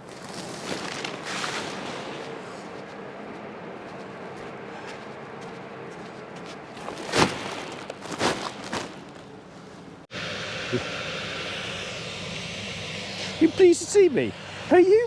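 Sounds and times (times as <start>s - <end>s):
hissy running noise: 0.0s - 15.0s
tractor engine running: 1.8s - 9.5s, 10.1s - 15.0s.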